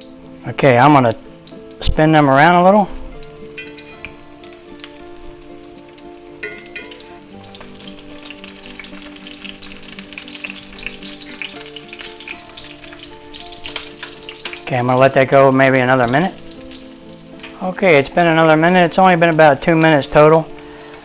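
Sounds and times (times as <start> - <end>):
background music: 0.0 - 21.0
cutlets sizzling in hot oil: 0.0 - 21.0.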